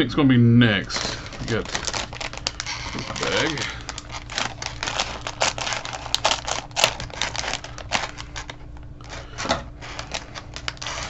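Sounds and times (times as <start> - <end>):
plastic bag crinkling: 0.8 - 11.0.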